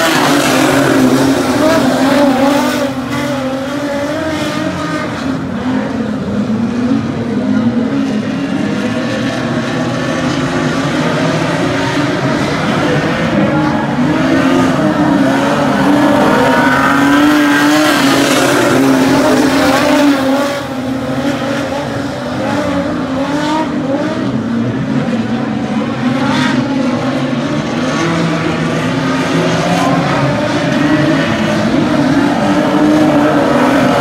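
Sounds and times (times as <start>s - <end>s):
race car engines roaring: 0.0s - 34.0s.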